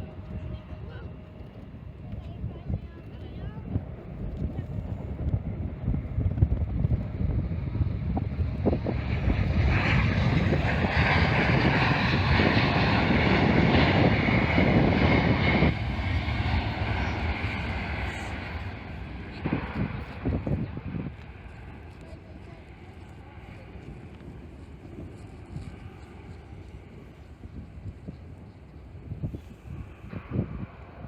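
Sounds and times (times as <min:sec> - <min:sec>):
jet airliner flying past: 0:00.0 - 0:31.0.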